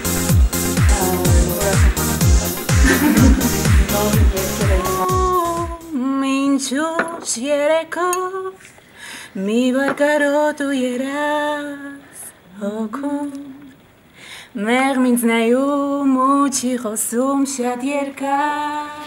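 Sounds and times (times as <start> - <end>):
woman singing unaccompanied: 0.8 - 2.0, 2.8 - 8.7, 9.3 - 13.8, 14.5 - 19.0.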